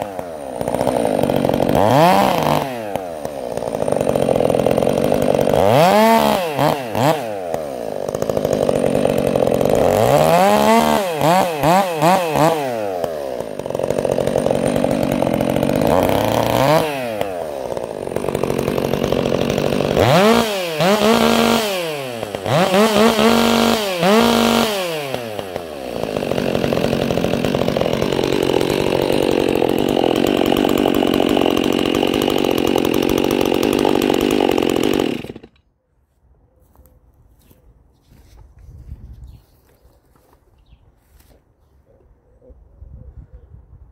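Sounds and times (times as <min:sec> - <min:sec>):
chainsaw revving: 0:00.0 - 0:35.6.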